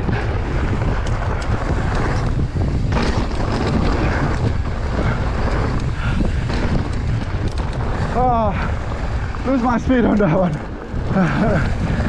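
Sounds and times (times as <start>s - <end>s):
bike ticks and rattles: 0.0s - 12.0s
bike tyres rolling over gravel: 0.0s - 12.0s
wind buffeting microphone: 0.0s - 12.0s.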